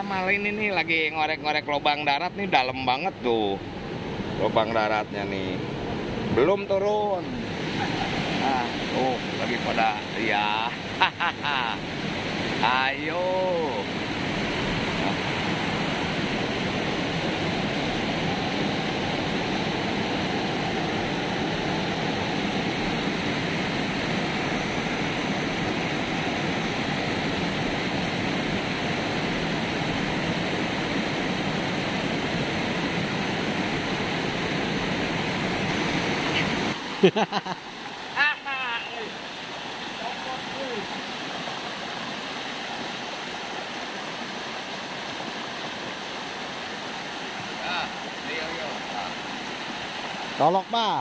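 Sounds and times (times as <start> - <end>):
river water pouring over a weir: 7.3 - 51.0.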